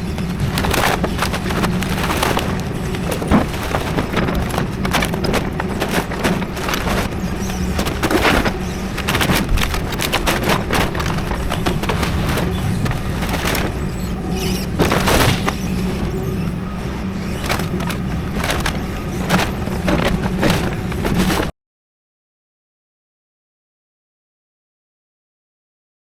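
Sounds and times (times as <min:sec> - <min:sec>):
debris cracking and splintering: 0:00.0 - 0:21.5
excavator engine running: 0:00.0 - 0:21.5.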